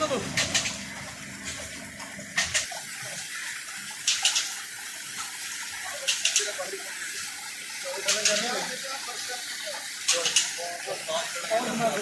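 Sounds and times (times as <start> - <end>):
running water rushing: 0.0 - 12.0
splashy hisses of water: 0.0 - 12.0.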